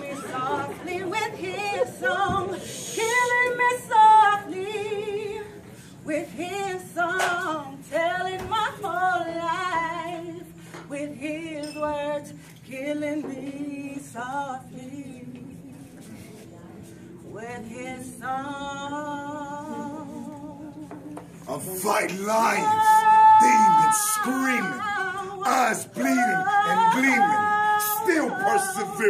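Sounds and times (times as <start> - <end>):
woman singing: 0.0 - 16.1, 17.2 - 29.0.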